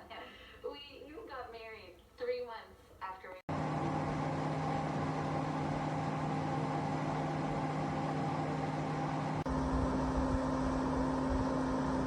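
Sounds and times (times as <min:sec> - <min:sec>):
heater fan humming: 0:00.1 - 0:12.0.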